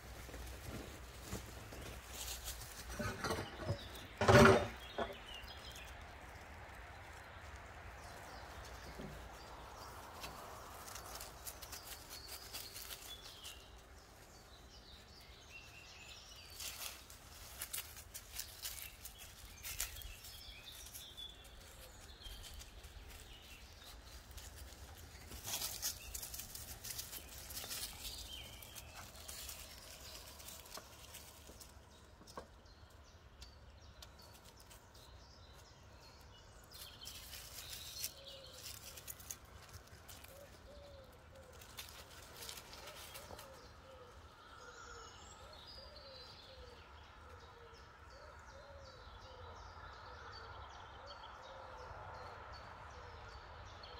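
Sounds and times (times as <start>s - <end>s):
dry leaves rustling underfoot: 0.0s - 33.0s, 33.8s - 46.8s
birds chirping: 0.0s - 53.9s.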